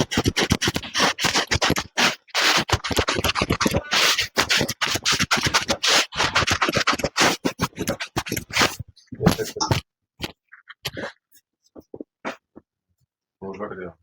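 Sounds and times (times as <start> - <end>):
scratching and scraping: 0.0 - 12.4.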